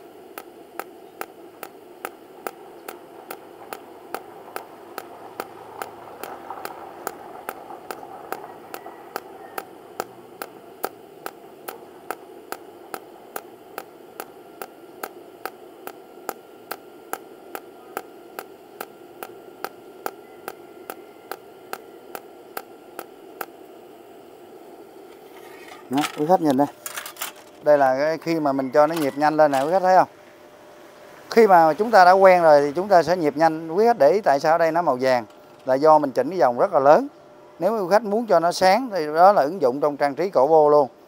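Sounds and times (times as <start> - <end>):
welding arc cracking pulses: 0.0 - 36.4
steady welder hiss: 0.0 - 41.0.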